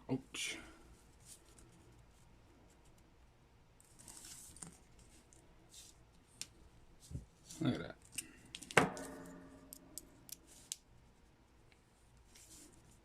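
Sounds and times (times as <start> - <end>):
soft rustle of small parts: 0.8 - 13.0.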